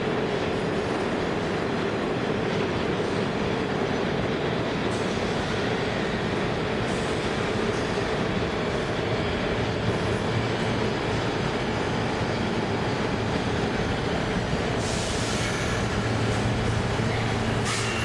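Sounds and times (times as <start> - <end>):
subway train wheels rumbling on rail: 0.0 - 18.0.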